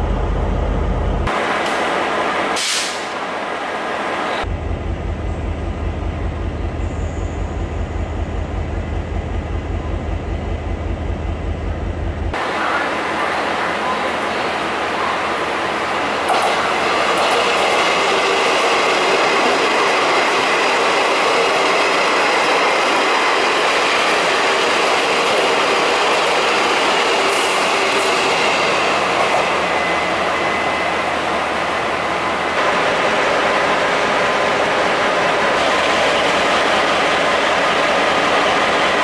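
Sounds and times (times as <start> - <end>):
diesel locomotive running slowly: 0.0 - 2.0, 4.4 - 39.0
train wheels rushing on rail: 1.0 - 39.0.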